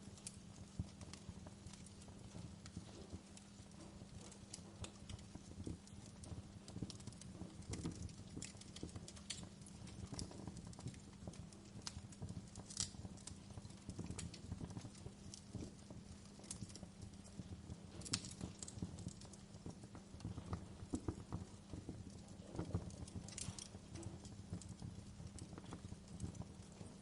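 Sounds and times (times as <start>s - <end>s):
campfire crackling and popping: 0.0s - 27.0s
low rumble of flames: 0.0s - 27.0s.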